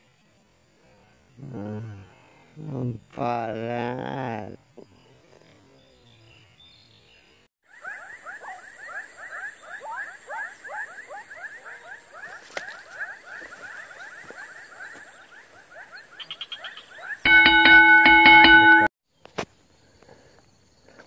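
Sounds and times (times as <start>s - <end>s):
chorus of animal chirps: 0.1s - 18.0s.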